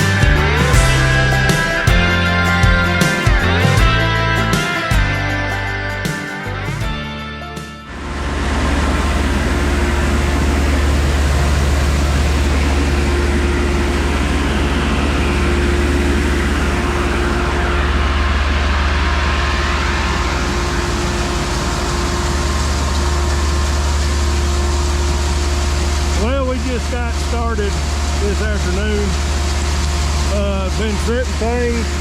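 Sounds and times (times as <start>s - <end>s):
heavy farm machinery running: 0.0s - 32.0s.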